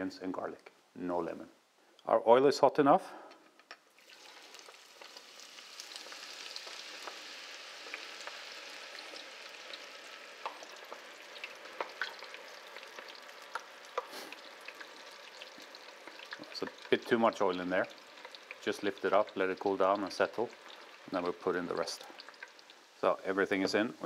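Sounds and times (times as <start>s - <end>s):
oil popping and crackling: 3.5s - 23.8s
food sizzling in hot oil: 3.9s - 24.0s.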